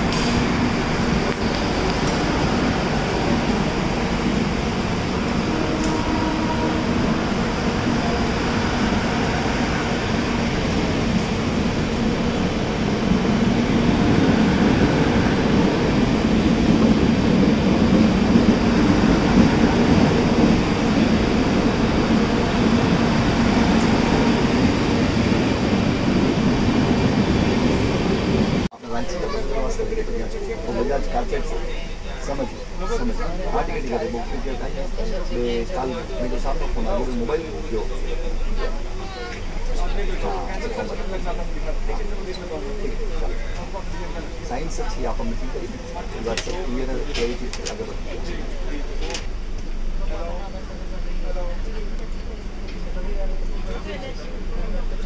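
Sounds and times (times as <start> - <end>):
train humming at platform: 0.0 - 55.0.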